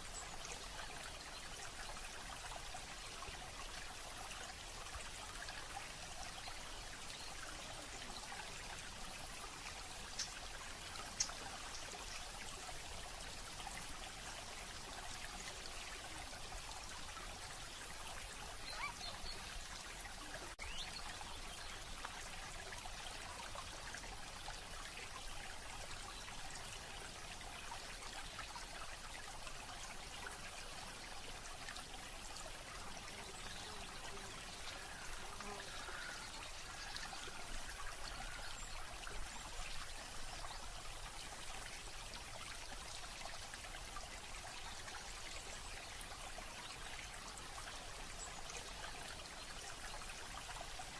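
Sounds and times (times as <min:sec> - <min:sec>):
running water: 0:00.0 - 0:50.9.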